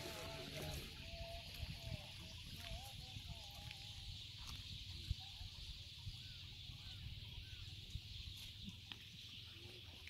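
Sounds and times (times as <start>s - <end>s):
faint bird calls: 0.0s - 10.0s.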